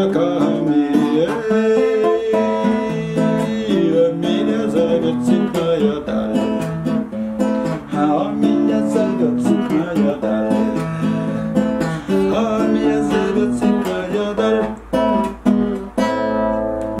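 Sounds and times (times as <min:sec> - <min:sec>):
classical guitar strumming chords: 0:00.0 - 0:17.0.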